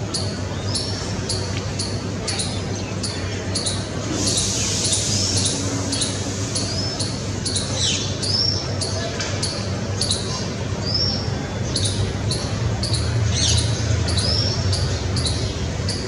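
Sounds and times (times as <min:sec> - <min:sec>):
small birds chipping: 0:00.0 - 0:16.0.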